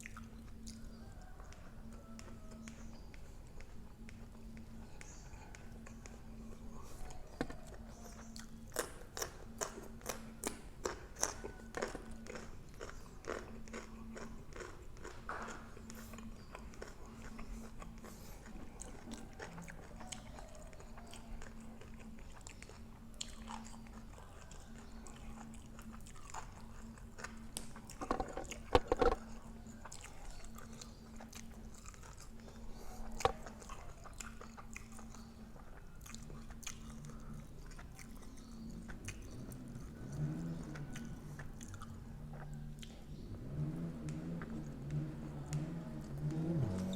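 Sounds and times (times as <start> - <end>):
faint hum: 0.0 - 46.9
person chewing crunchy food: 0.0 - 46.9.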